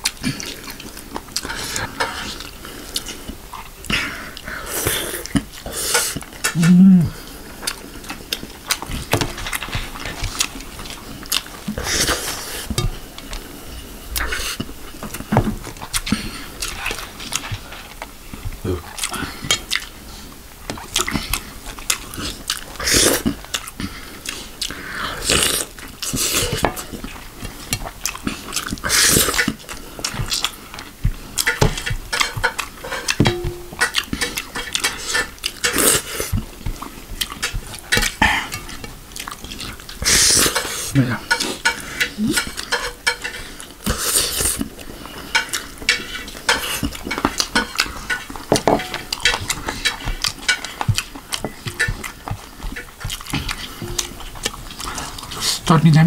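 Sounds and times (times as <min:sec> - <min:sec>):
wet chewing and lip smacking: 0:00.0 - 0:56.0.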